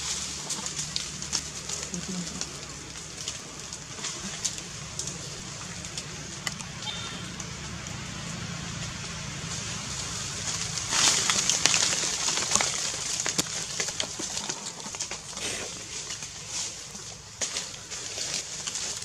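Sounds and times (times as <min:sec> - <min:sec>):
dry leaves rustling and crackling: 0:00.0 - 0:19.0.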